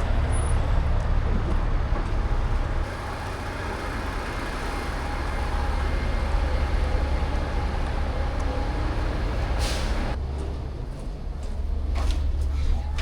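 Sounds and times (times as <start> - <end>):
heavy truck engine drone: 0.0 - 12.9
road noise: 0.0 - 13.0.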